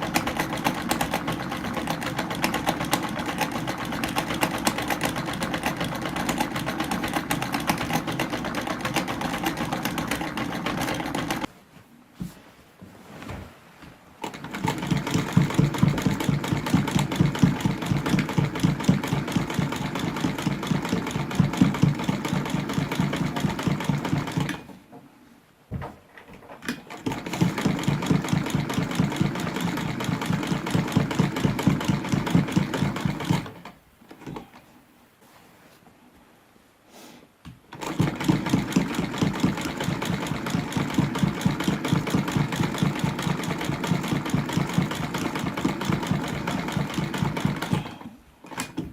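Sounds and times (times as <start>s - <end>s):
sewing machine stitching: 0.0s - 11.5s, 14.2s - 24.7s, 26.7s - 34.5s, 37.7s - 48.9s.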